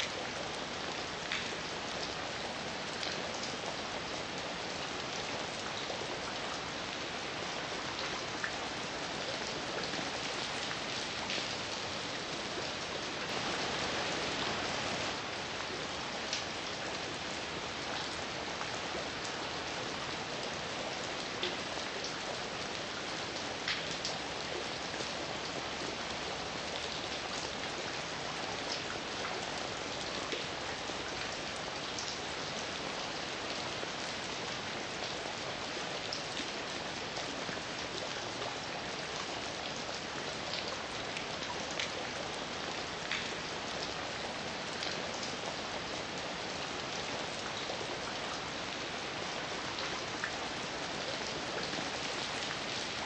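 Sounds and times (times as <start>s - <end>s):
heavy rain falling: 0.0s - 53.0s
raindrops striking a surface: 0.0s - 53.0s.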